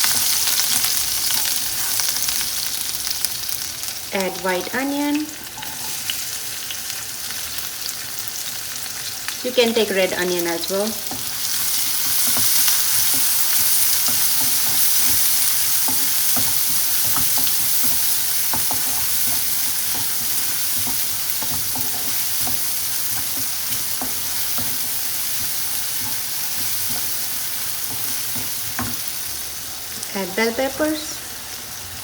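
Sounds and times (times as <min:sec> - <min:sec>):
food sizzling in hot oil: 0:00.0 - 0:32.0.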